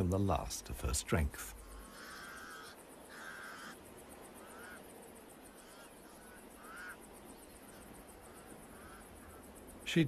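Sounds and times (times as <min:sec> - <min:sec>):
crows cawing: 0:01.4 - 0:09.8.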